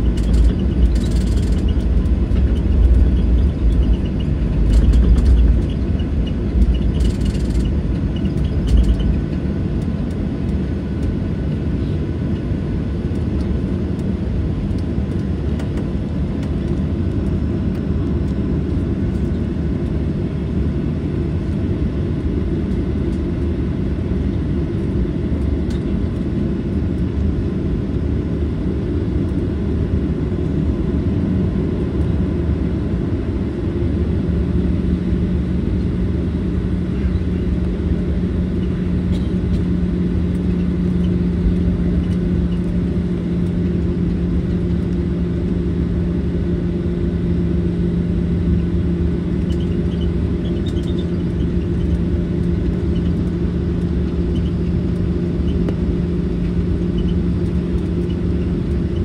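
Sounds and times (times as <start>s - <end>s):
airplane cabin rumble: 0.0s - 59.0s
steady hum: 0.0s - 59.0s.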